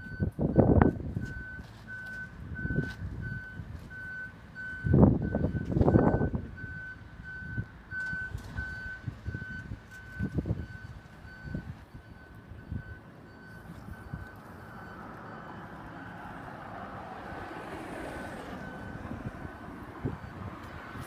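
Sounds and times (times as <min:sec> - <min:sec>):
vehicle reversing beeper: 0:00.0 - 0:21.0.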